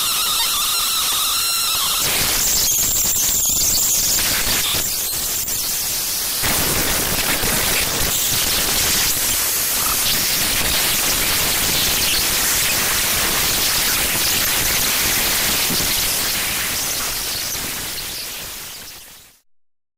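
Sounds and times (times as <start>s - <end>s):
harsh static noise: 0.0s - 19.4s.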